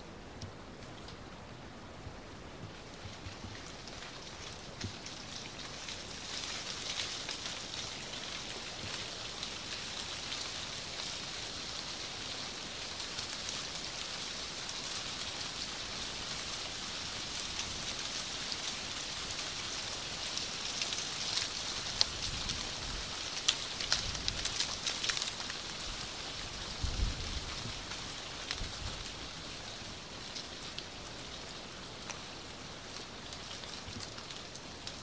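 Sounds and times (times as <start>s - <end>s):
dry leaves rustling: 2.6s - 35.0s.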